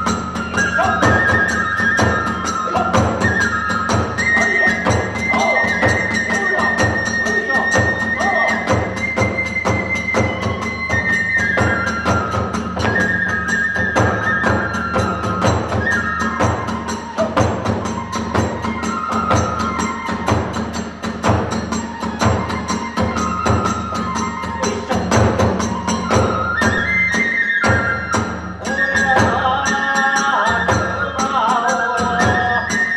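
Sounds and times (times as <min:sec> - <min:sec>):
drum beat: 0:00.0 - 0:32.6
bamboo flute melody: 0:00.0 - 0:32.9.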